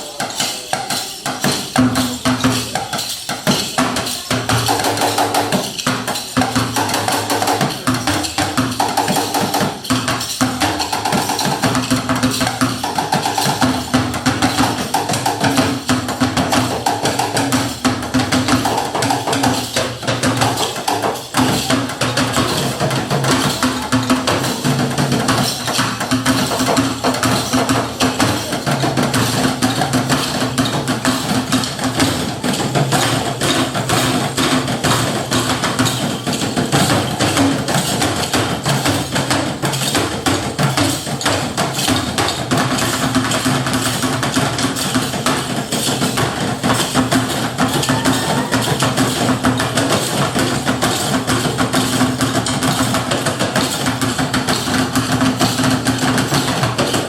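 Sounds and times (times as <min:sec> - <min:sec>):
fast hammer-like percussion: 0:00.0 - 0:57.0.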